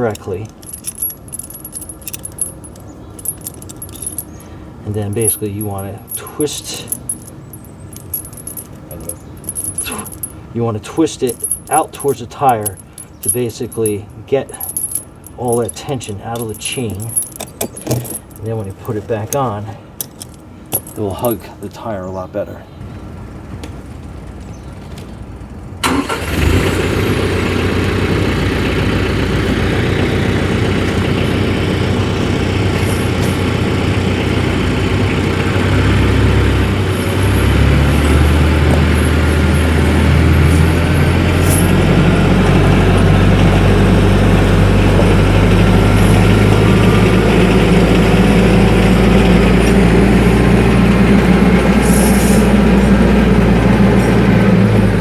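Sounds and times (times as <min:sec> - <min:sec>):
tractor engine starting and running: 0:00.0 - 0:21.4, 0:23.4 - 0:55.0.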